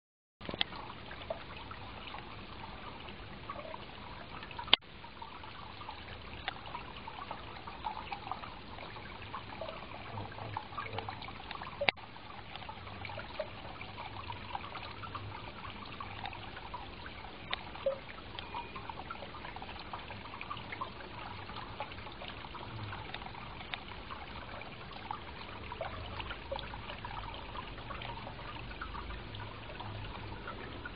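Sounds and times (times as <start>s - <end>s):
fountain water trickling and splashing: 0.4s - 30.9s.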